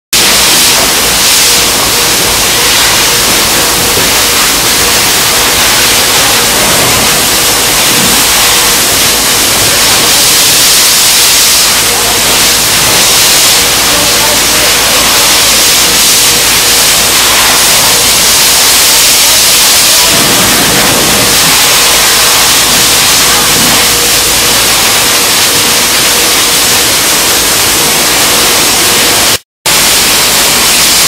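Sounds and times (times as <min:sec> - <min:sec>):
roaring fire: 0:00.2 - 0:29.3
fire hose water hissing: 0:00.2 - 0:31.0.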